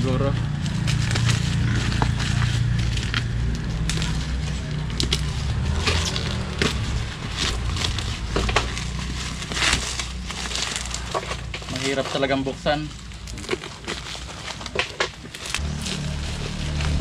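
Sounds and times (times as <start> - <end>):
steady low rumble: 0.0 - 14.7, 15.4 - 17.0
bubble wrap and tape crinkling: 0.0 - 17.0.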